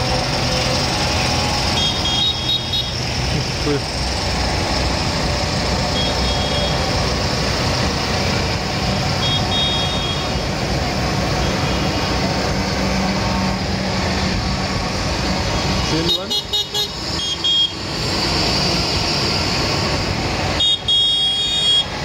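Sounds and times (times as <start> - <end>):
tractors rumbling past: 0.0 - 16.3, 16.9 - 20.6.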